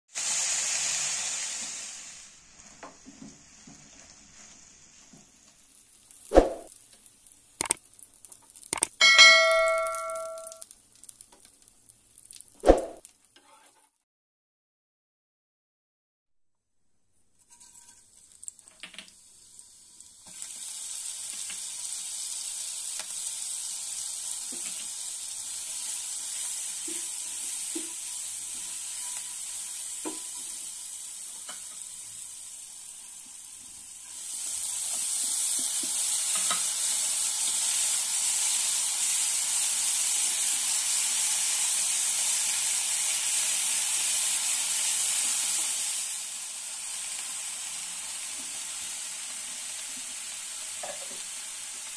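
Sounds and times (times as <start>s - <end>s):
oil sizzling in a frying pan: 0.1s - 14.0s, 17.0s - 51.9s.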